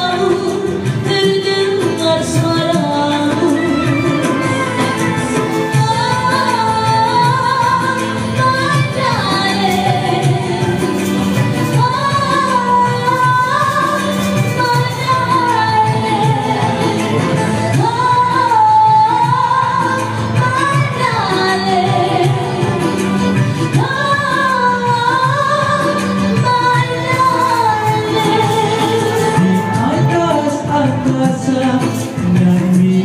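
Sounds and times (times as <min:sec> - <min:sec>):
instrumental accompaniment: 0:00.0 - 0:33.0
woman singing pop song: 0:00.0 - 0:33.0.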